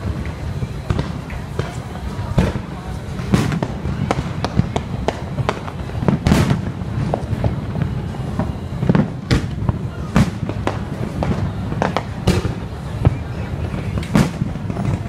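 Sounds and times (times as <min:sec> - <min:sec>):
fireworks bursting with sharp bangs: 0:00.0 - 0:15.0.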